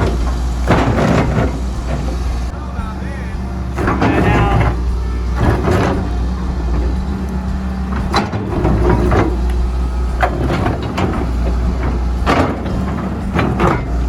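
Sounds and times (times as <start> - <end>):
excavator diesel engine running: 0.0 - 14.0
steel bucket scraping frozen ground: 0.0 - 14.0.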